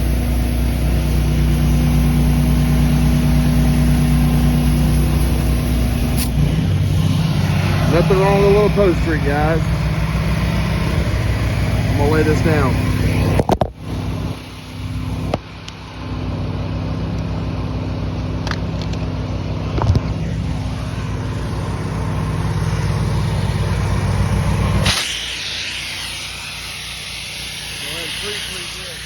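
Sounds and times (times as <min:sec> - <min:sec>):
water spraying hiss: 0:00.0 - 0:15.3, 0:20.5 - 0:29.0
pressure washer engine running: 0:00.0 - 0:29.0.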